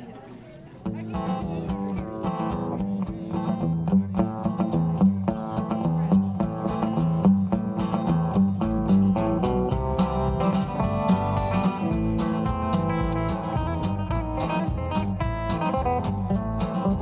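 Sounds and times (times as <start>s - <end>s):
guitar picking single notes: 0.8s - 17.0s
bass guitar: 0.9s - 17.0s.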